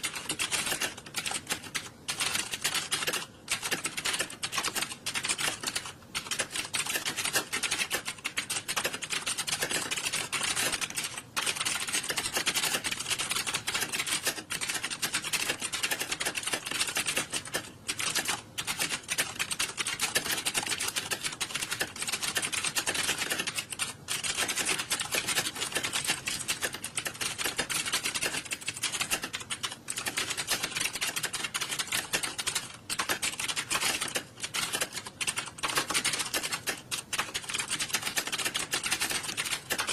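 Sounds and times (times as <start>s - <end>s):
people typing on keyboards: 0.0s - 39.9s.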